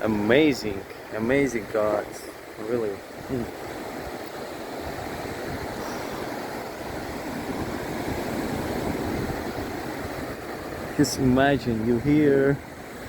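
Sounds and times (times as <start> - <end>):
sea waves washing ashore: 0.0 - 13.0.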